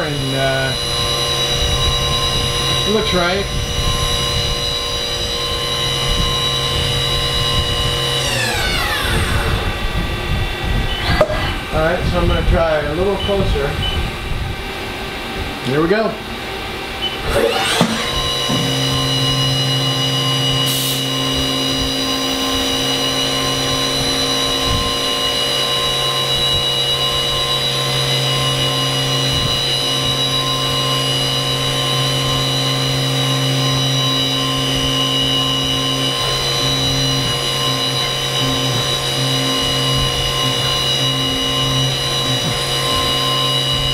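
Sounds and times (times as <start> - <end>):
low machine hum: 0.0 - 43.9
milling machine spindle whine: 0.0 - 43.9.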